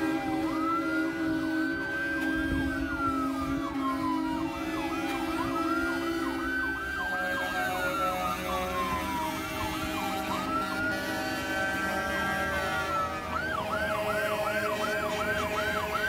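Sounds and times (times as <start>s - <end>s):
siren wailing: 0.0s - 16.0s
siren yelping: 0.0s - 16.0s.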